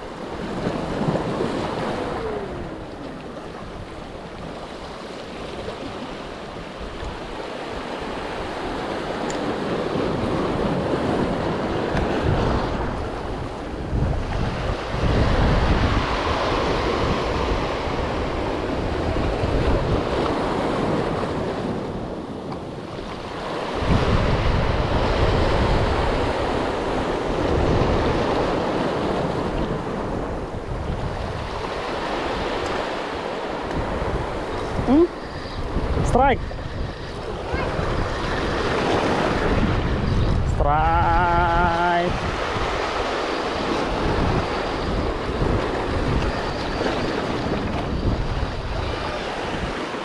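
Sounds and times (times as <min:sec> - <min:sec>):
waves breaking on rocks: 0:00.0 - 0:50.0
wind buffeting microphone: 0:00.0 - 0:50.0.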